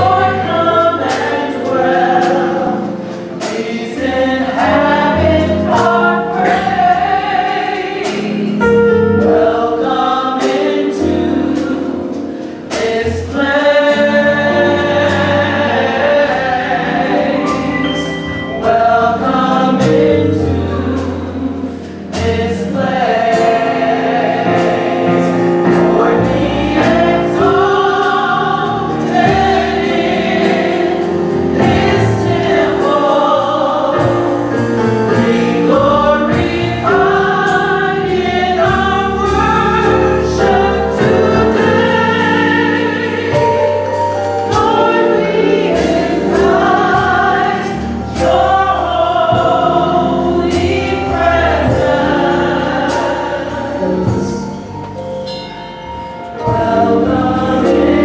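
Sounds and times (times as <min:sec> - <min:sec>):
steady drum beat: 0:00.0 - 0:54.7
band accompaniment: 0:00.0 - 0:58.0
gospel choir singing: 0:00.0 - 0:58.0.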